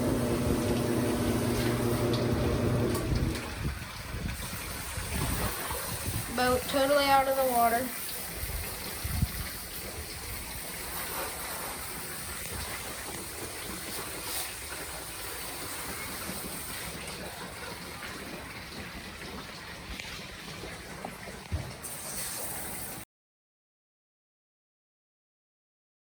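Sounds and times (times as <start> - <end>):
rush of running water: 0.0 - 23.0.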